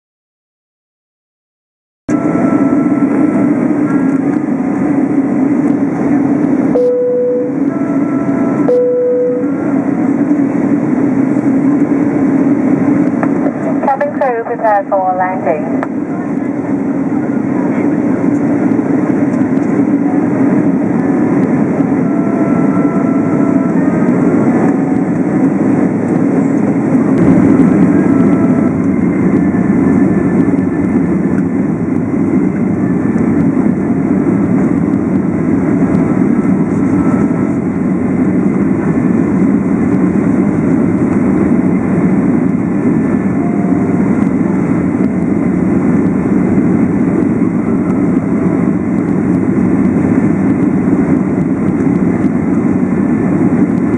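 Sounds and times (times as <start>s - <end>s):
airliner cabin engine rumble: 2.1s - 53.9s.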